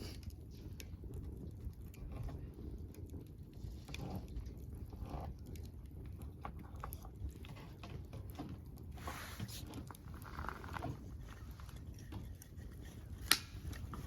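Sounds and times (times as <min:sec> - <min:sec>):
campfire crackling and popping: 0:00.0 - 0:14.0
low fire rumble: 0:00.0 - 0:14.0.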